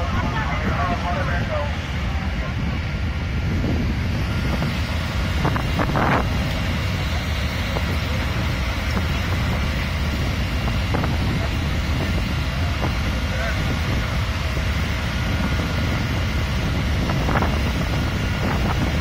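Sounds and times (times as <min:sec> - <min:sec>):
fire engines idling: 0:00.0 - 0:19.0
wind rumbling on microphone: 0:00.0 - 0:19.0.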